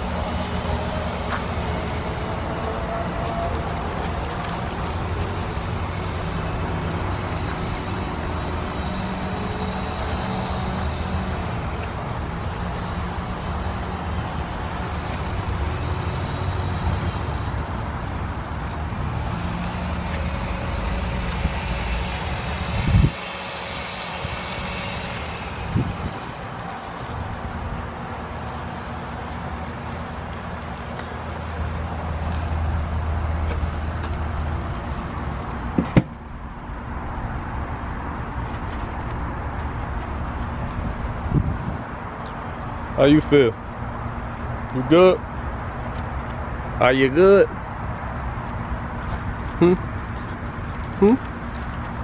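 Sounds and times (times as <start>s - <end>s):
vehicle engine hum: 0.0s - 52.0s.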